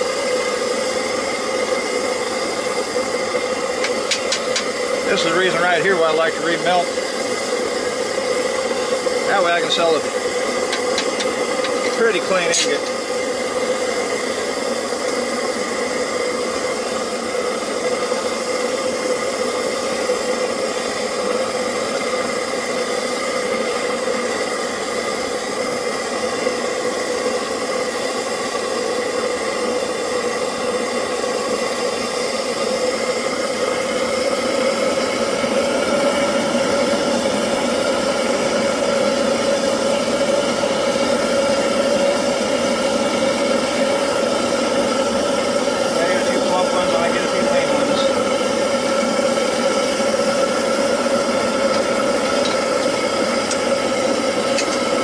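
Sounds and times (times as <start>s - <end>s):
oil burner droning hum: 0.0s - 55.0s
rushing hiss of air and flame: 0.0s - 55.0s.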